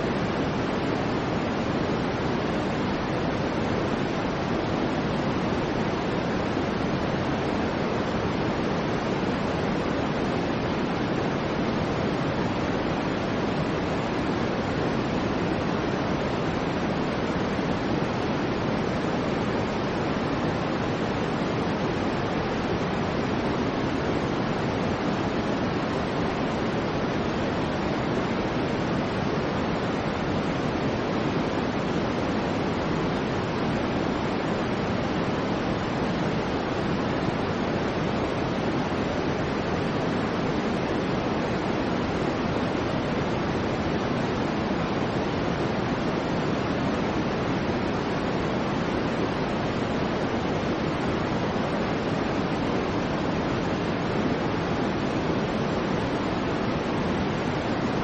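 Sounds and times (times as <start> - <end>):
soft white noise hiss: 0.0 - 58.0.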